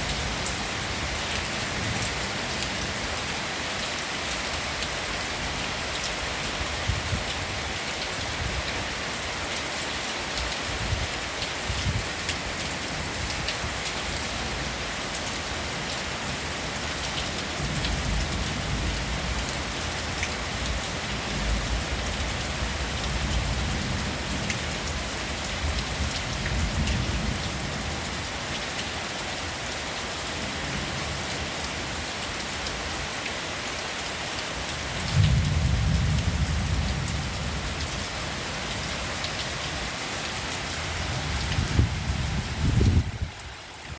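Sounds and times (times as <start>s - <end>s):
heavy rain hissing: 0.0s - 43.9s.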